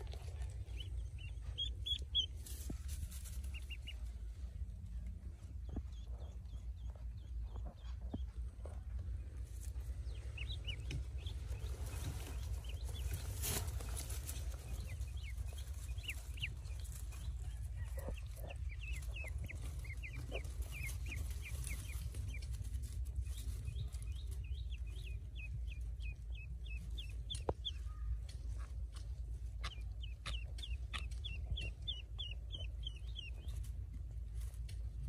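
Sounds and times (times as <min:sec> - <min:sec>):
ducklings peeping: 0:00.0 - 0:35.0
low rumble: 0:00.0 - 0:35.0.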